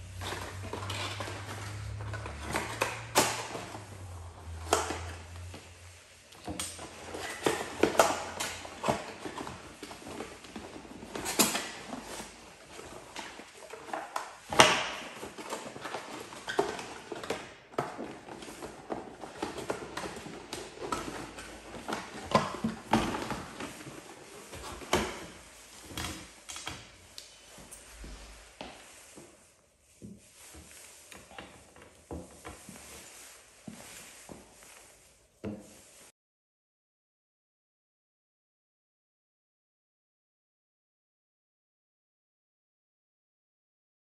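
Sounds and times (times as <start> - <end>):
cardboard rustling: 0.0 - 36.1.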